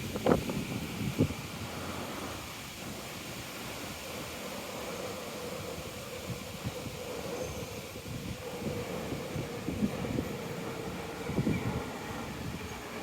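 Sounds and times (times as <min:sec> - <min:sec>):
wind buffeting microphone: 0:00.0 - 0:13.0
wind rushing through leaves: 0:00.0 - 0:13.0.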